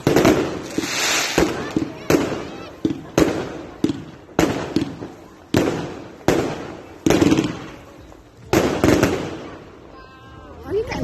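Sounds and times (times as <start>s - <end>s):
fireworks bangs: 0.0s - 10.8s.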